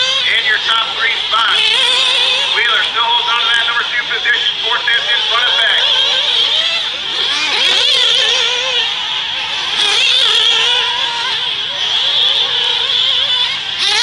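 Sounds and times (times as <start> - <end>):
rc buggy engines revving: 0.0 - 14.0.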